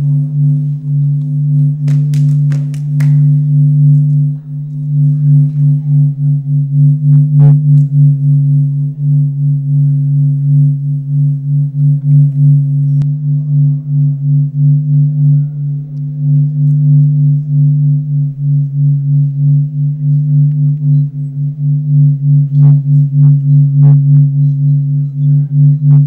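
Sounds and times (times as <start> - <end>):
low pulsing drone: 0.0 - 26.0.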